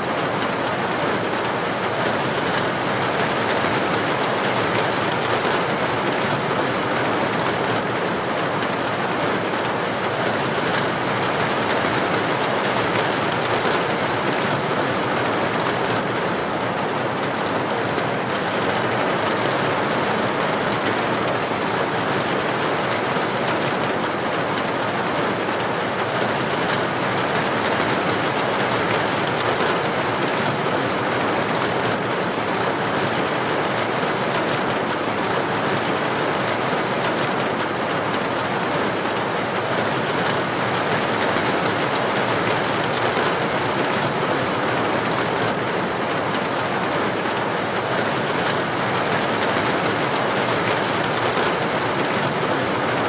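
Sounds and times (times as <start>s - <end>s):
heavy rain on a street: 0.0s - 53.0s.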